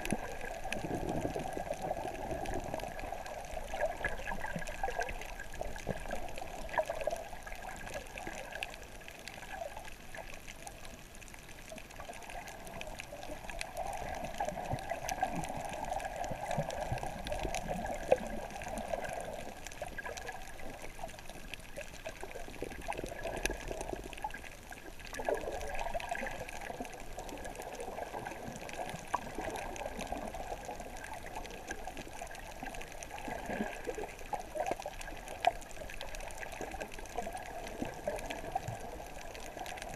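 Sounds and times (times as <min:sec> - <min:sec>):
faint clicks: 0:00.0 - 0:39.9
muffled underwater water sloshing: 0:00.0 - 0:39.9.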